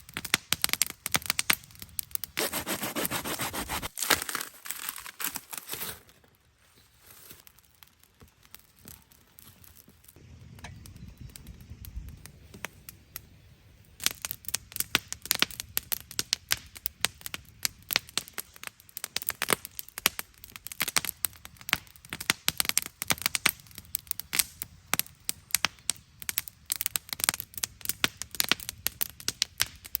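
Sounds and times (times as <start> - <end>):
campfire wood crackling and popping: 0.0 - 5.5, 6.2 - 30.0.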